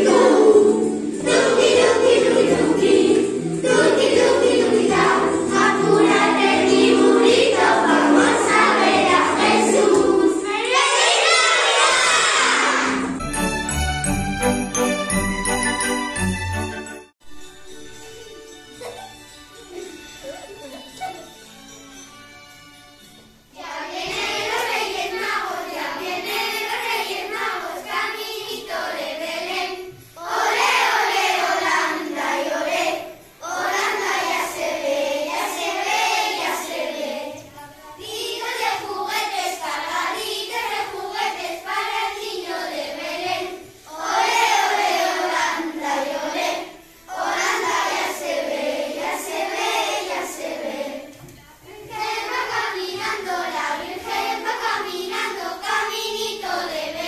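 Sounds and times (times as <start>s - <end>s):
children singing together: 0.0s - 13.2s, 23.5s - 57.0s.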